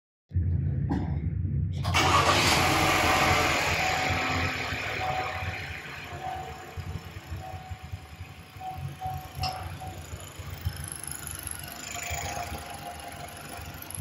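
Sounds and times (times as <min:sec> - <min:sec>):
car engine idling: 0:01.9 - 0:14.0.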